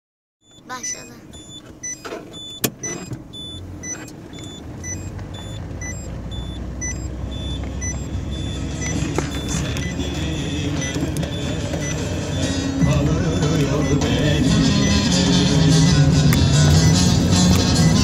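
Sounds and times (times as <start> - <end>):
car driving on gravel road: 1.2 - 18.0.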